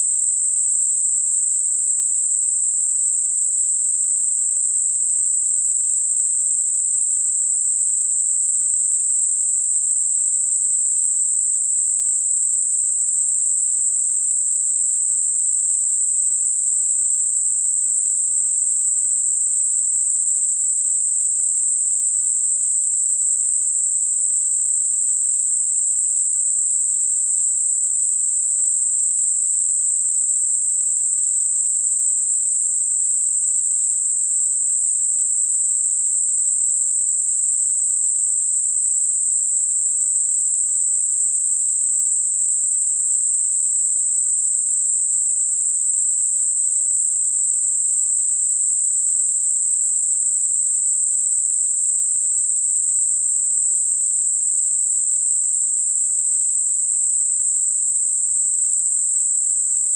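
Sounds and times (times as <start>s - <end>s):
very high-pitched hiss: 0.0s - 59.9s.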